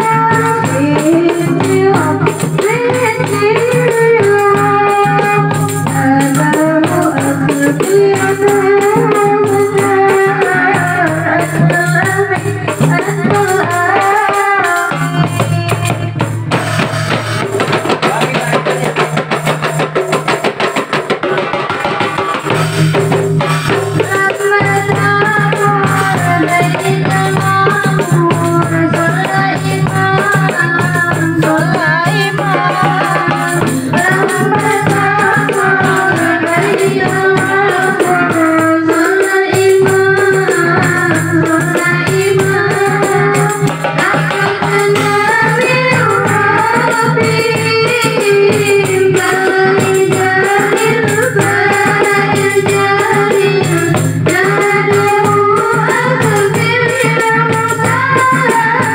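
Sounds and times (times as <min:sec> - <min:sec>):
woman singing: 0:00.0 - 0:16.5, 0:23.8 - 0:58.9
hand drums rhythm: 0:00.0 - 0:58.9.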